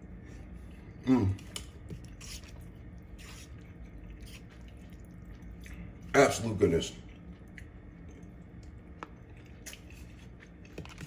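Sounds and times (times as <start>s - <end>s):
wet chewing of pasta: 0.1s - 6.2s, 6.8s - 11.0s.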